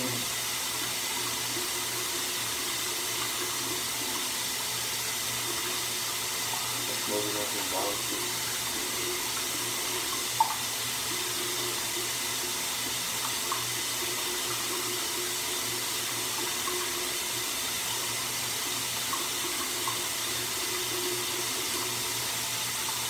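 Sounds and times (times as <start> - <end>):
water running: 0.0 - 23.0.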